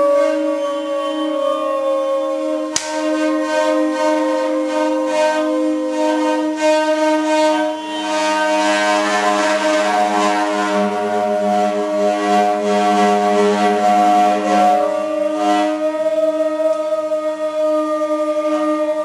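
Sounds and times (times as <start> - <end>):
droning percussion tones: 0.0 - 19.0.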